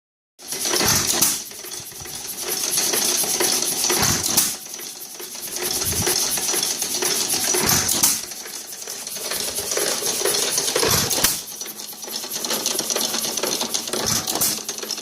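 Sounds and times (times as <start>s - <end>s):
engine metallic clatter: 0.4s - 15.0s
heavy engine thumps: 0.6s - 15.0s.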